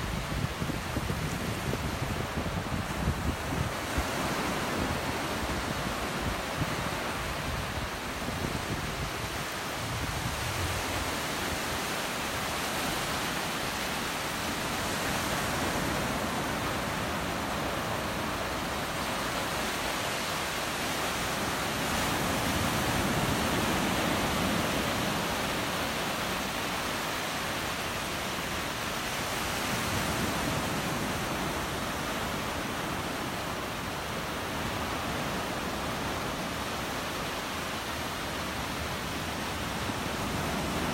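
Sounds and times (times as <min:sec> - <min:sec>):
surf waves washing onto beach: 0:00.0 - 0:40.9.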